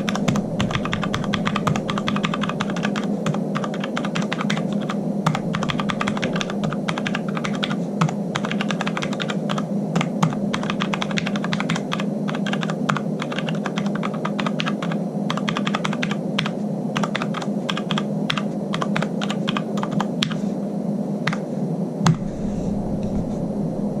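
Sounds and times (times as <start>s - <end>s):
keyboard keys typing: 0.0s - 20.4s
steady low hum: 0.0s - 24.0s.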